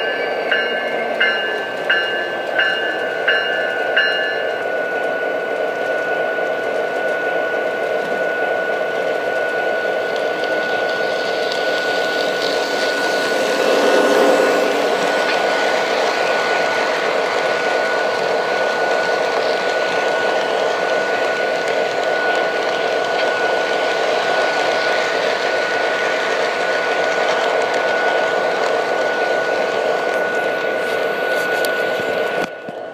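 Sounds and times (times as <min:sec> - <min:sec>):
model train whirring and rumbling: 0:00.0 - 0:32.9
steady high tone: 0:00.0 - 0:32.9.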